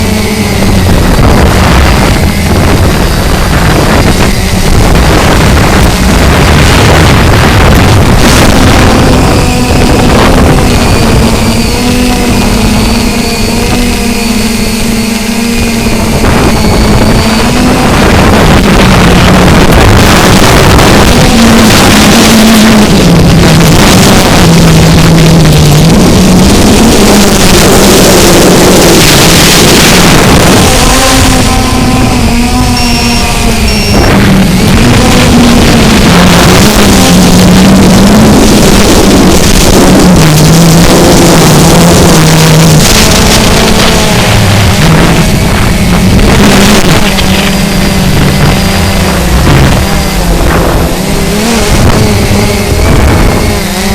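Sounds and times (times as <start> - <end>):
faint drone motor hum: 0.0 - 53.9
wind buffeting microphone: 0.0 - 53.9.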